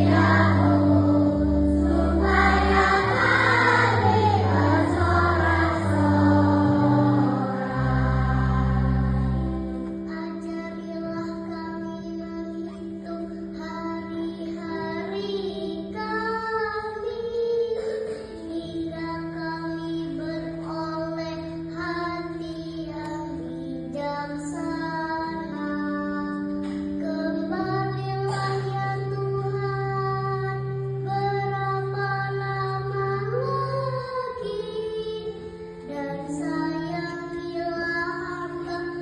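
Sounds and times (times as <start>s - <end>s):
child singing: 0.0s - 39.0s
held accompanying chords: 0.0s - 39.0s.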